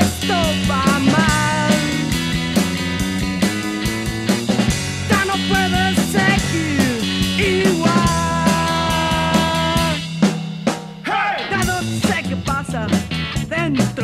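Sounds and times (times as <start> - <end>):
rock band playing instrumental: 0.0 - 14.0.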